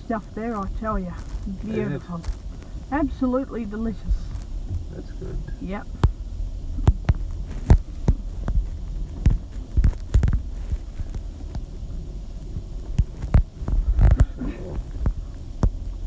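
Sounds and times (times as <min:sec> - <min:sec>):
car cabin rumble: 0:00.0 - 0:16.0.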